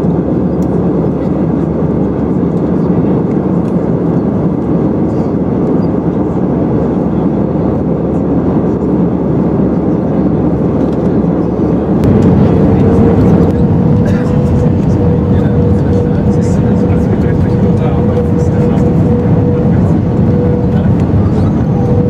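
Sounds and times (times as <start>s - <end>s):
airflow over fuselage: 0.0s - 22.0s
jet engines in cabin: 0.0s - 22.0s
steady hum: 0.0s - 22.0s.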